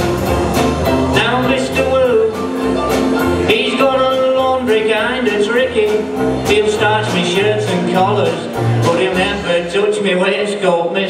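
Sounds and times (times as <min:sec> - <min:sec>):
electric guitar: 0:00.0 - 0:09.5
steady drum beat: 0:00.0 - 0:09.8
keyboard playing: 0:00.0 - 0:11.0.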